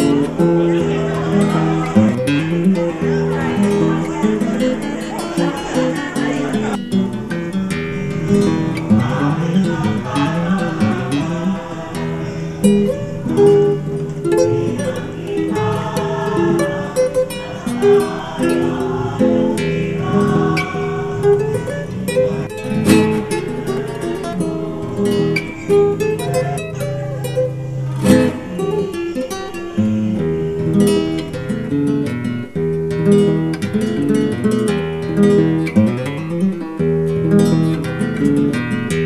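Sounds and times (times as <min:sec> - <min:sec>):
plucked string instruments: 0:00.0 - 0:39.0
strummed acoustic guitars: 0:00.0 - 0:39.0.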